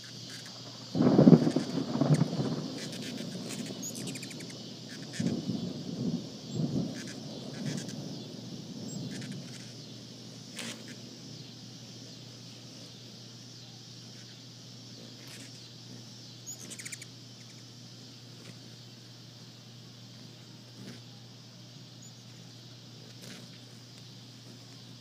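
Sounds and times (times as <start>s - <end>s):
hummingbirds chipping: 0.0s - 25.0s
steady high hiss: 0.0s - 25.0s.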